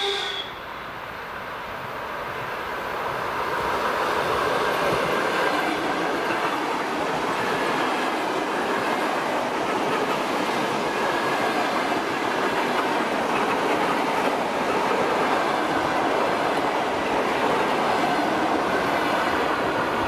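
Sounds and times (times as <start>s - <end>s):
train wheels rolling on rails: 0.0s - 20.0s.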